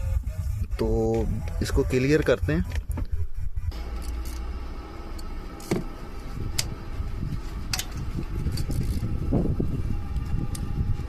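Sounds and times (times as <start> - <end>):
car engine rumbling unevenly: 0.0 - 11.0.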